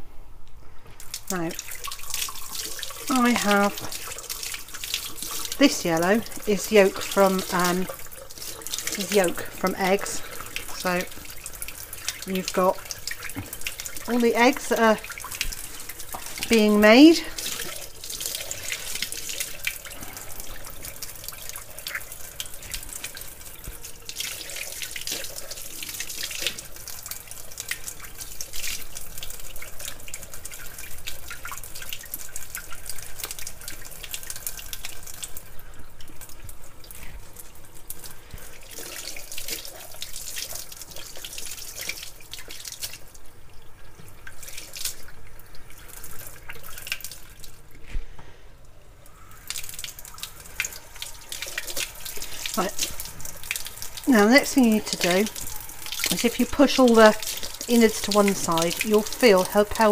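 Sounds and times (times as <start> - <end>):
water splashing and dripping: 0.9 - 48.1, 49.0 - 59.9.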